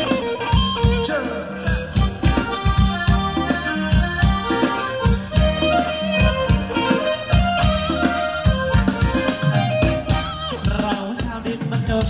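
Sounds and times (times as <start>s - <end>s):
live band playing dance music: 0.0s - 12.0s
steady drum beat: 0.0s - 12.0s.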